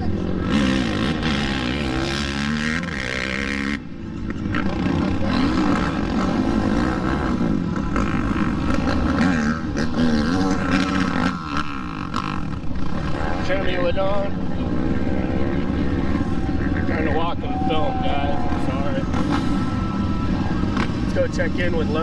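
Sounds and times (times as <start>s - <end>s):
quad engines revving: 0.0s - 22.0s.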